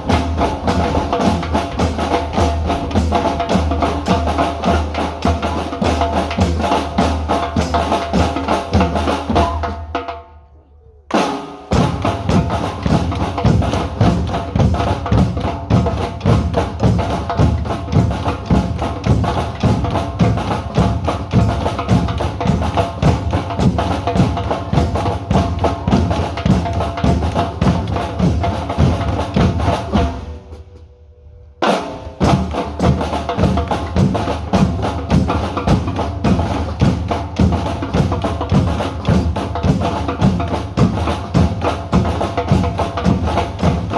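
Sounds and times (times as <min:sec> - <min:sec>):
drum group playing: 0:00.0 - 0:10.3, 0:11.1 - 0:31.0, 0:31.6 - 0:43.9.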